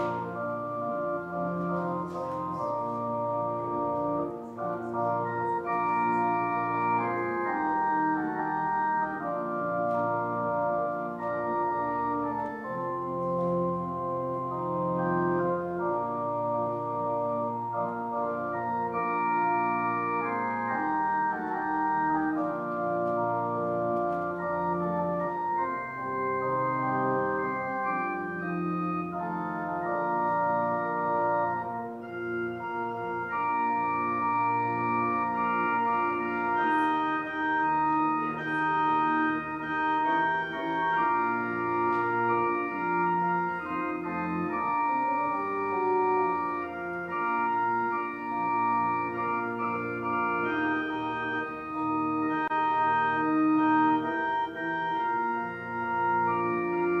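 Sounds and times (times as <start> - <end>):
church organ chords: 0.0 - 57.0.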